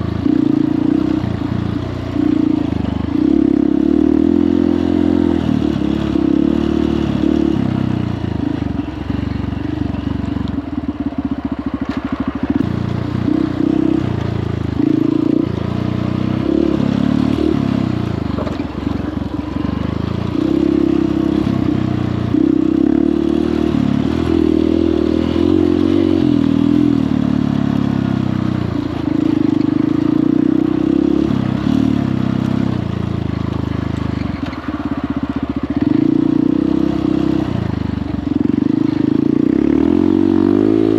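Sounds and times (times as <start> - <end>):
dirt bike engine revving: 0.0 - 8.9, 11.6 - 32.9, 34.1 - 40.9.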